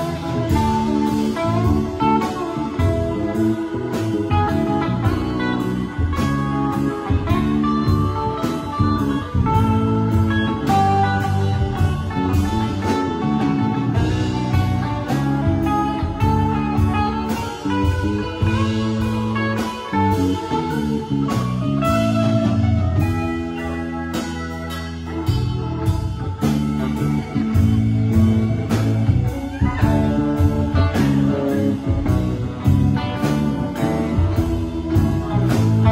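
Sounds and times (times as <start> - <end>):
electric guitar: 0.0 - 35.9
rock band playing: 0.0 - 35.9.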